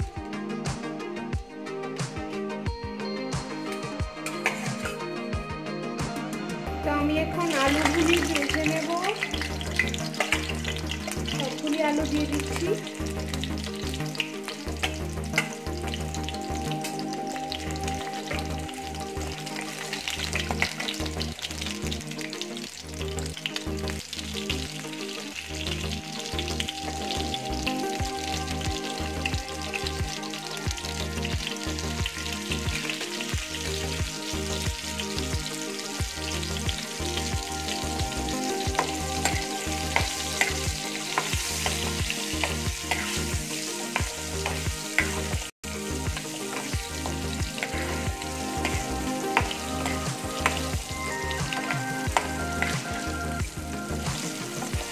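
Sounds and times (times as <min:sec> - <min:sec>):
potatoes sizzling in oil: 0:06.8 - 0:54.9.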